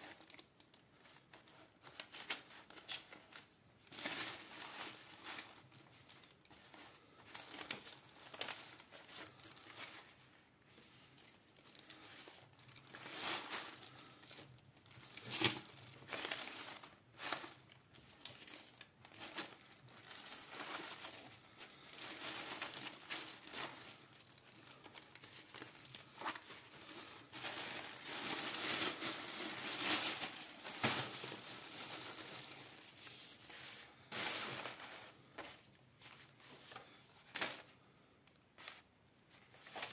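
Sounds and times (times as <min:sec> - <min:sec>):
plastic bag crinkling: 0:00.0 - 0:37.9, 0:38.5 - 0:39.9
banknotes rustling: 0:00.9 - 0:37.9.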